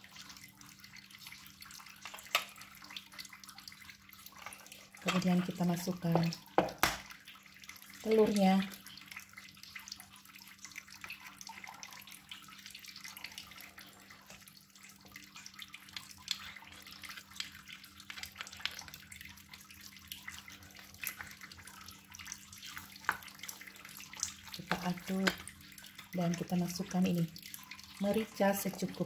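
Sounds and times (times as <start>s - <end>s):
spatula squishing wet mix: 0.0s - 29.0s.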